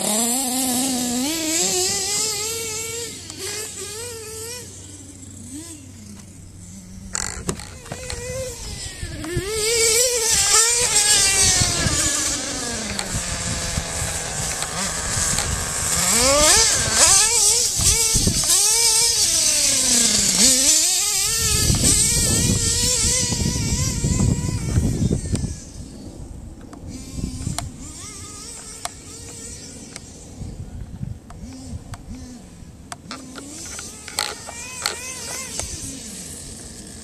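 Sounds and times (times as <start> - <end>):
model truck engine revving: 0.0 - 26.0, 26.9 - 30.5, 31.4 - 37.0.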